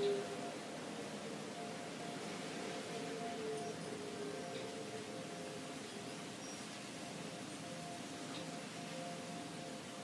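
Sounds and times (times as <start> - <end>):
distant warning sirens: 0.0 - 10.0.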